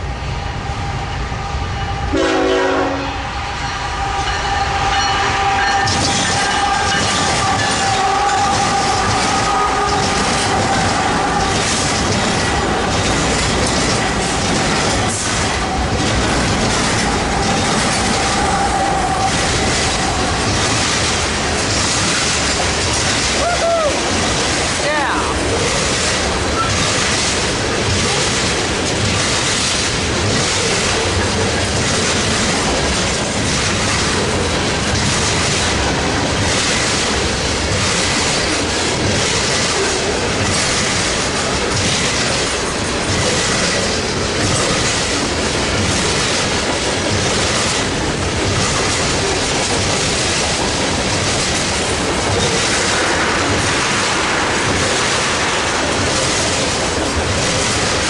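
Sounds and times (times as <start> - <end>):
freight train wheels on rail: 0.0 - 58.0.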